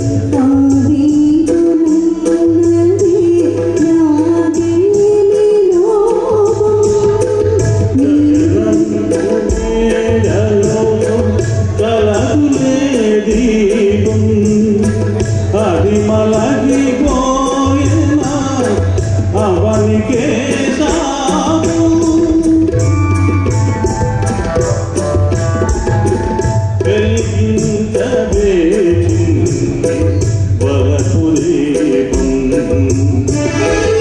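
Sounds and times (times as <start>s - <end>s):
hand drum beat: 0.0s - 34.0s
person singing: 0.3s - 24.0s, 26.8s - 34.0s.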